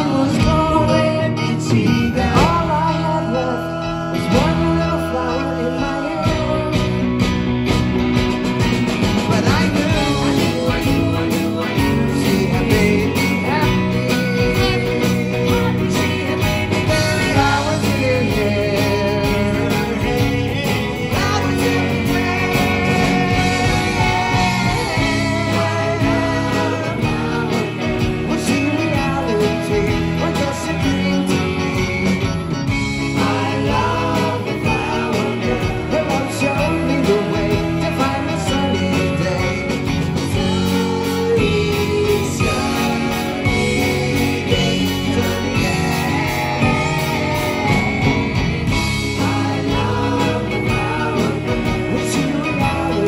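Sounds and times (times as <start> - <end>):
person singing: 0.0 - 7.4, 9.1 - 53.0
drums: 0.0 - 53.0
guitars: 0.0 - 53.0.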